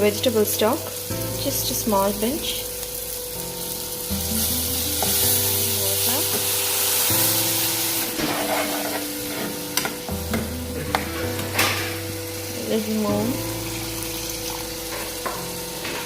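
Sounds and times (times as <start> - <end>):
food sizzling in a pan: 0.0 - 16.0
soft background music: 0.0 - 16.0.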